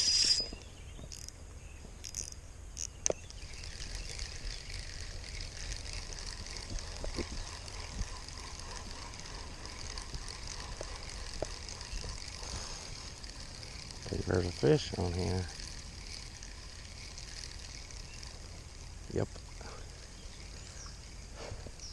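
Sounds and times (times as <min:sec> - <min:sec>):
fishing reel whirring: 0:00.0 - 0:01.4, 0:02.0 - 0:21.9.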